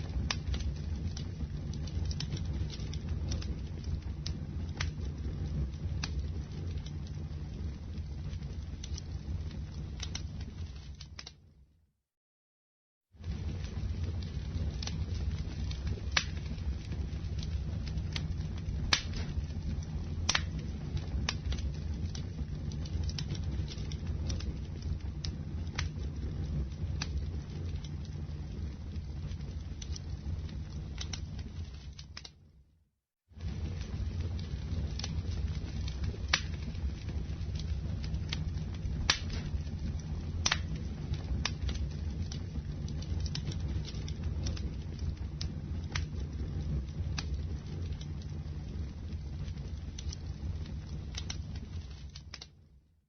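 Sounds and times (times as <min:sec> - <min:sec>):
campfire flames rumbling: 0:00.0 - 0:11.6, 0:13.1 - 0:32.6, 0:33.2 - 0:53.0
wood crackling and popping: 0:00.0 - 0:11.6, 0:13.2 - 0:32.5, 0:33.4 - 0:52.8.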